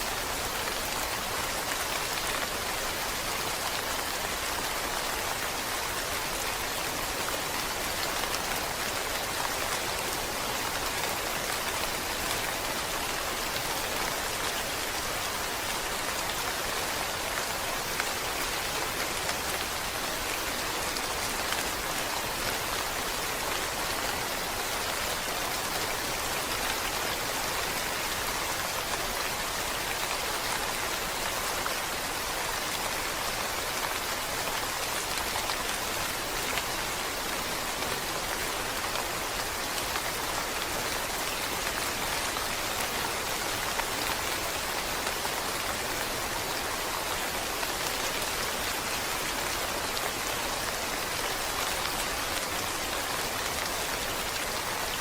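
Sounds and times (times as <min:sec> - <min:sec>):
rainfall hiss: 0:00.0 - 0:55.0.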